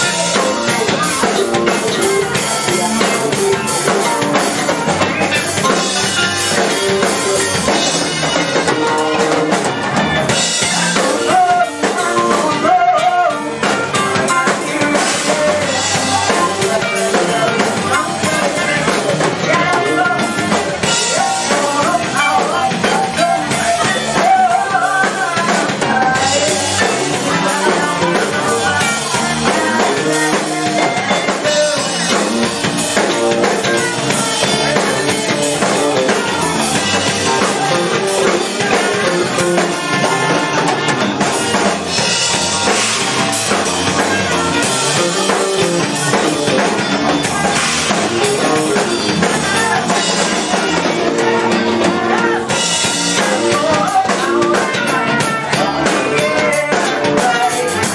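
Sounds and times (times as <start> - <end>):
live rock band playing: 0.0 - 57.9
people singing into microphones: 0.0 - 57.9.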